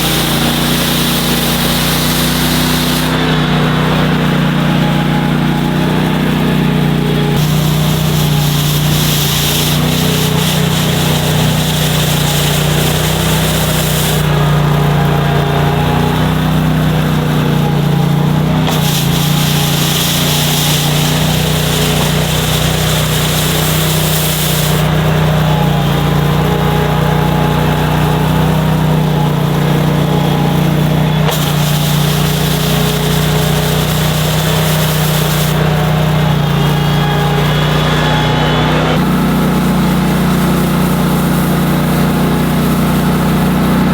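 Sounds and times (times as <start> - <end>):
bristles sweeping snow: 0.0 - 43.9
engine running: 0.0 - 43.9.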